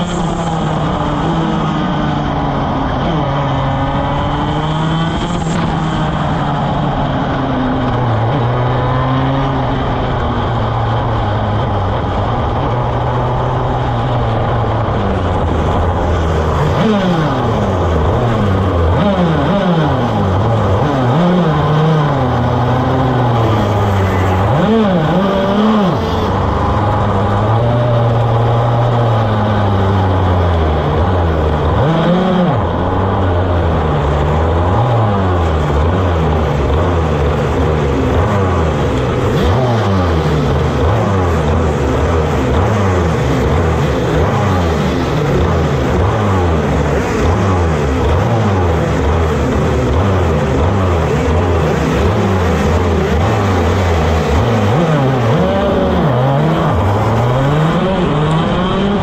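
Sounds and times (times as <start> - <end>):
kart engine running: 0.0 - 59.0
other kart engines revving: 0.0 - 59.0.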